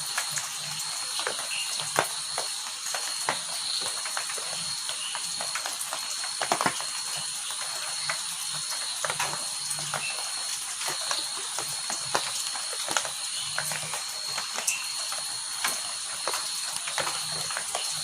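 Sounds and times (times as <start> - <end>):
heavy rain: 0.0 - 18.0
raindrops splattering: 0.0 - 18.0.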